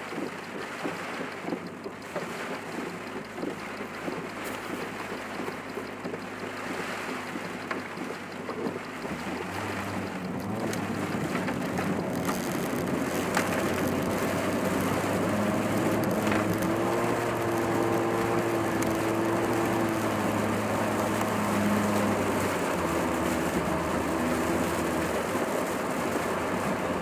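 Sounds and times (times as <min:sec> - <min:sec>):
car engine hum: 0:00.0 - 0:27.0
tyres on wet road: 0:00.0 - 0:27.0
wind and rain: 0:00.0 - 0:27.0.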